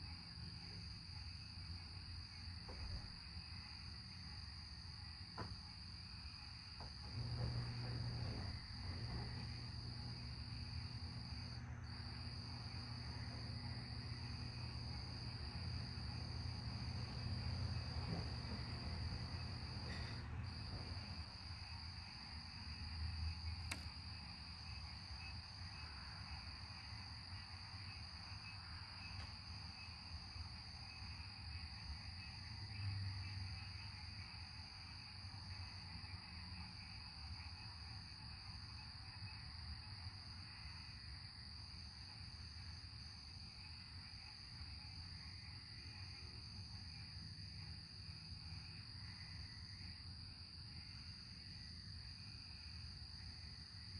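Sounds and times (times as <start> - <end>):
night insects chirring: 0.0 - 53.9.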